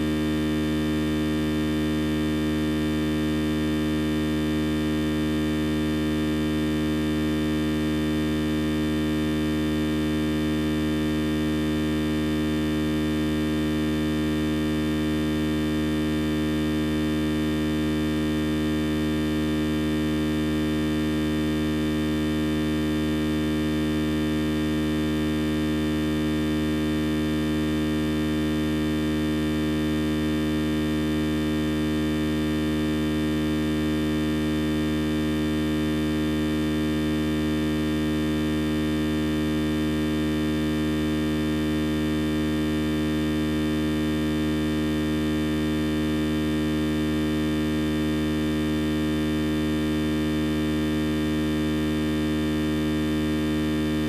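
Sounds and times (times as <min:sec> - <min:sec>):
electrical hum and buzz: 0:00.0 - 0:54.0.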